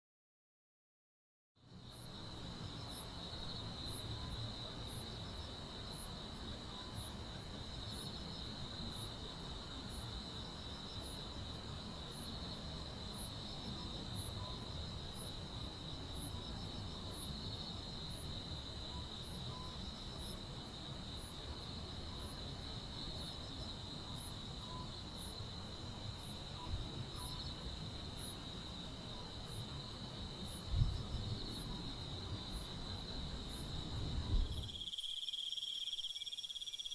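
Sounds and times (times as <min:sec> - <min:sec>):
cricket chirping: 0:01.7 - 0:36.9
insects trilling: 0:01.9 - 0:36.9.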